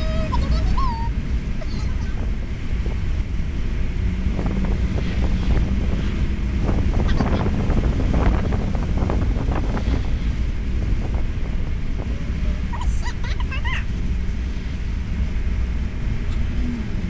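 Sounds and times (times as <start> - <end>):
road and wind rumble: 0.0 - 17.0.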